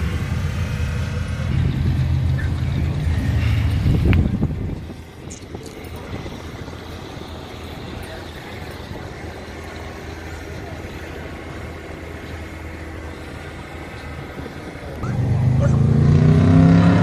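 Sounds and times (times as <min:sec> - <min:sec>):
car engine idling: 0:00.0 - 0:17.0
faint voices: 0:01.2 - 0:16.2.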